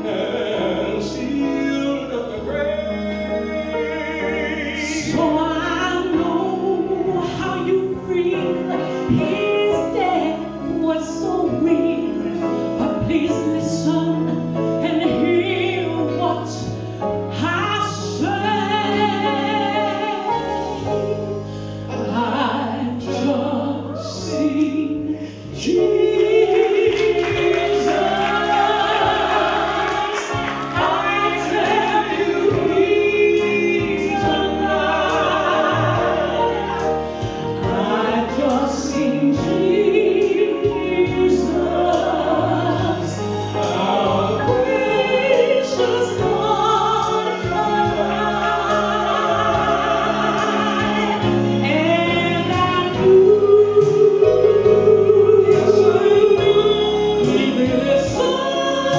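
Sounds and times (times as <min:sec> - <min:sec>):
woman singing gospel: 0:02.8 - 0:16.7, 0:21.9 - 0:58.9.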